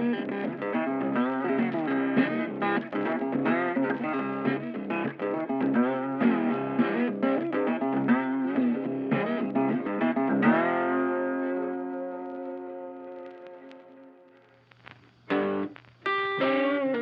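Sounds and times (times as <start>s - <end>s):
guitar music: 0.0s - 14.6s, 15.2s - 17.0s.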